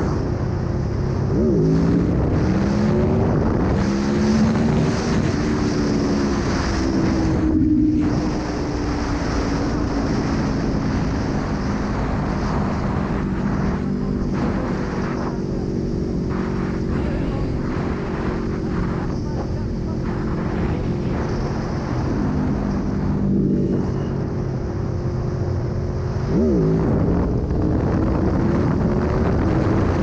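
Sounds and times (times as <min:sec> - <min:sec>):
motorcycle engine revving: 0:00.0 - 0:30.0
wind rushing over microphone: 0:00.0 - 0:30.0.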